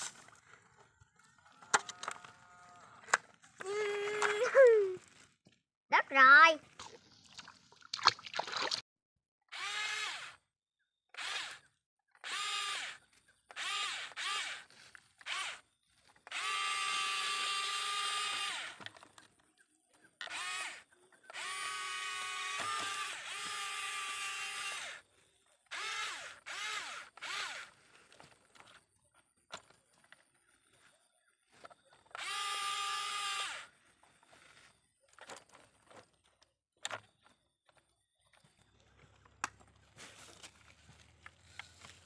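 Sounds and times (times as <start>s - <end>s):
toy excavator motors whining: 0.0s - 5.4s, 9.5s - 42.0s.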